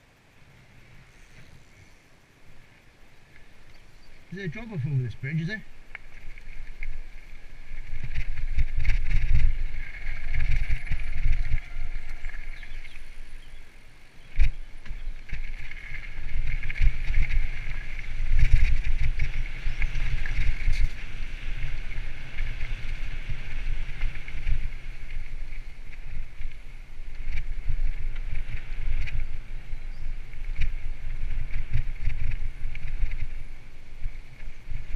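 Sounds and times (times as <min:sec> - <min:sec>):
wind buffeting microphone: 0:03.6 - 0:34.9.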